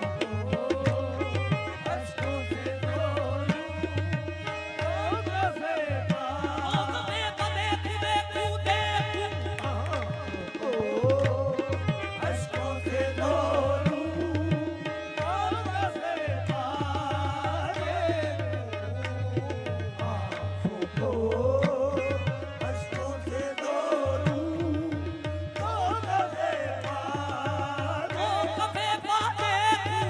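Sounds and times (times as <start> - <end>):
harmoniums playing: 0.0 - 30.0
tabla strokes: 0.0 - 30.0.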